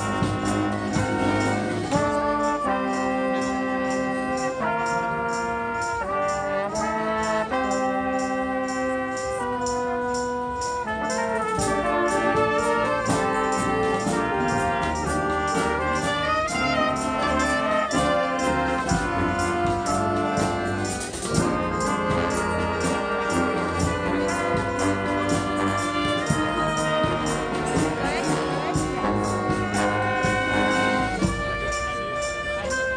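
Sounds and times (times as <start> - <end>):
steady percussion beat: 0.0 - 32.9
trumpets and trombones melody: 0.0 - 32.9.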